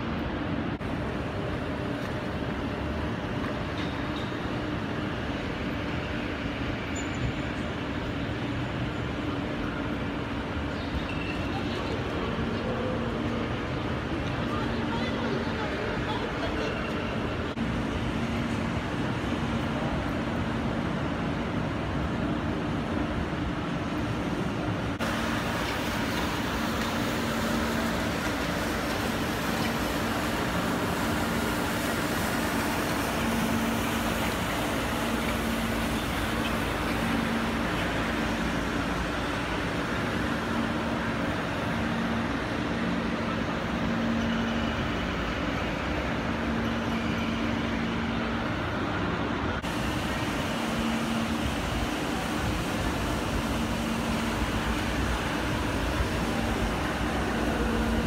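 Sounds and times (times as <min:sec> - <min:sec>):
station hall rumble and hiss: 0:00.0 - 0:58.0.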